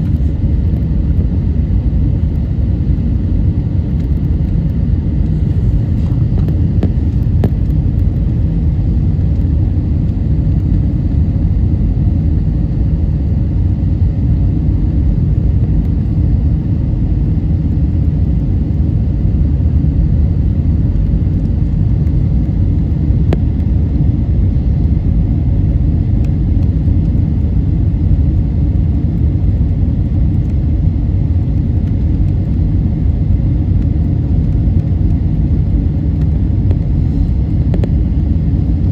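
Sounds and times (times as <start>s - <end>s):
jet cabin roar: 0.0s - 38.9s.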